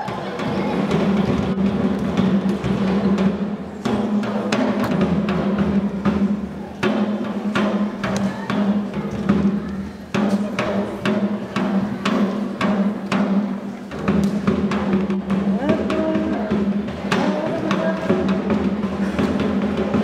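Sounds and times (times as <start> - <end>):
drums in steady beat: 0.0 - 20.0.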